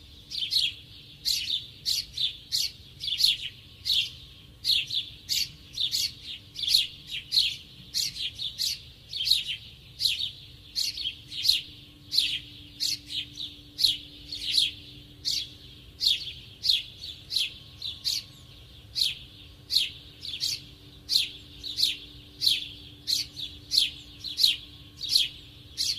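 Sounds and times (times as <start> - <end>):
small bird chirping: 0.0 - 25.9.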